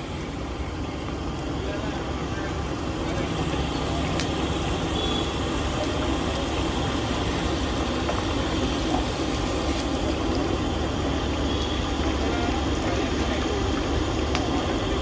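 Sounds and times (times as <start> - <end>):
fritters sizzling in hot oil: 0.0 - 15.0
low rumble of street traffic: 0.0 - 15.0.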